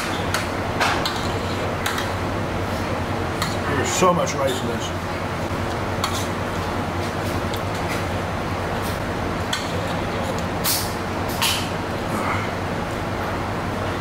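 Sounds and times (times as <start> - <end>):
air conditioning blowing: 0.0 - 14.0.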